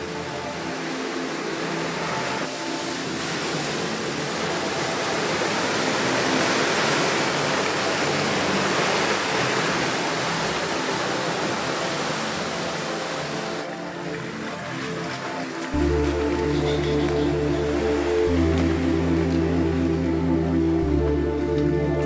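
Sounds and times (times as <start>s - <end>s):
muddy water rushing and splashing: 0.0s - 22.0s.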